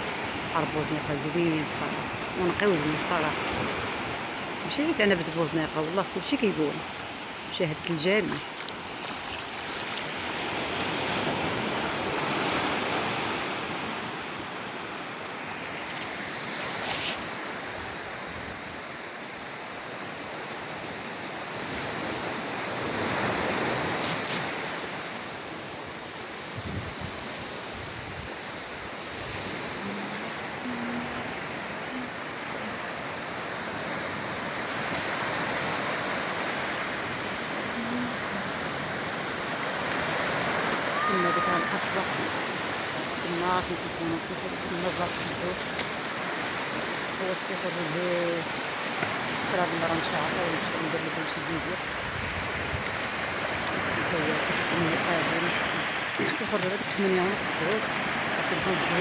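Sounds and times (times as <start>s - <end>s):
sea surf breaking: 0.0s - 59.0s.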